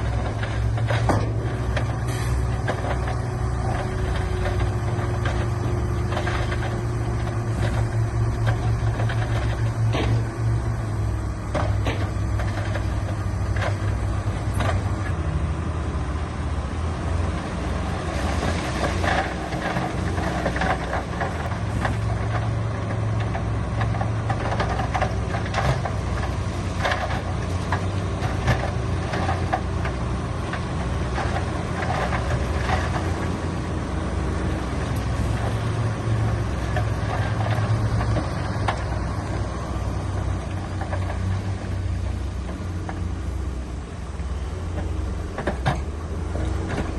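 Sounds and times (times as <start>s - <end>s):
diesel machinery running: 0.0s - 46.9s.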